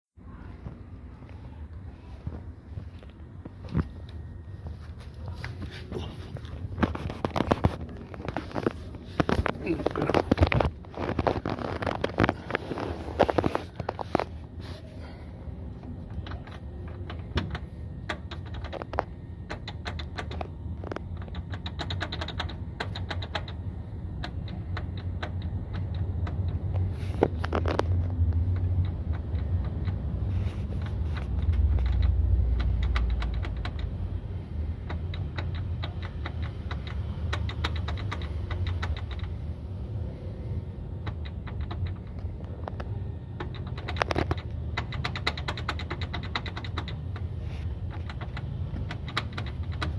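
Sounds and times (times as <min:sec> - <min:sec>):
low road rumble: 0:00.2 - 0:49.9
car suspension rattling and clicking: 0:06.0 - 0:14.6, 0:15.7 - 0:49.9.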